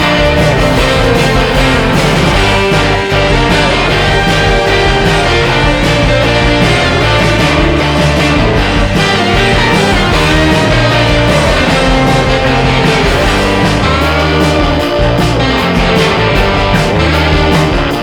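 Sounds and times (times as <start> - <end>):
rock music with guitar and bass: 0.0 - 18.0.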